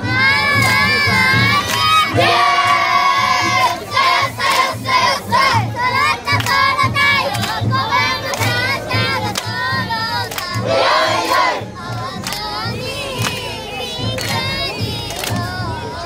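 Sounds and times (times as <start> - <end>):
sharp claps: 0.0 - 15.8
children chanting together: 0.0 - 16.0
steady low beat: 0.0 - 16.0.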